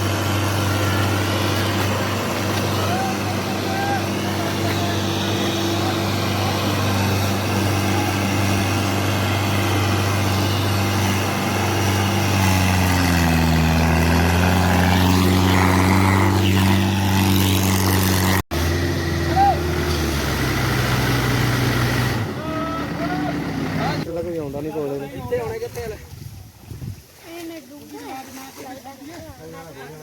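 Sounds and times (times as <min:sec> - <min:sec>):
tractor diesel engine running: 0:00.0 - 0:24.1.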